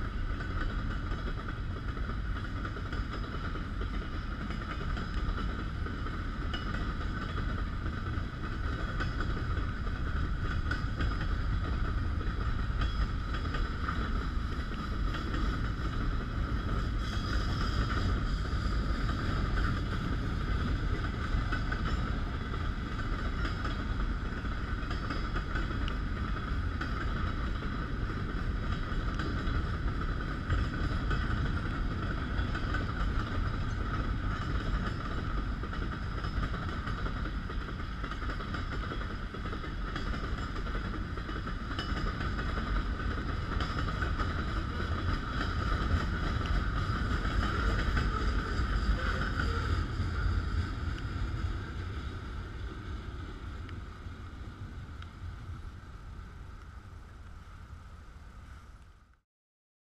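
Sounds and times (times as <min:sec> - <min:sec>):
train wheels rumbling on track: 0:00.0 - 0:59.2.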